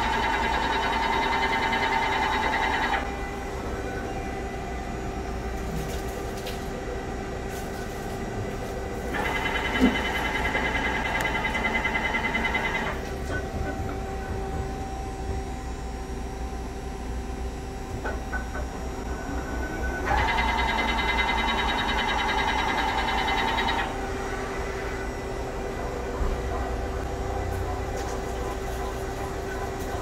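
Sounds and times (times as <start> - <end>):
lathe humming: 0.0 - 5.7, 8.8 - 30.0
high electric whine: 0.0 - 30.0.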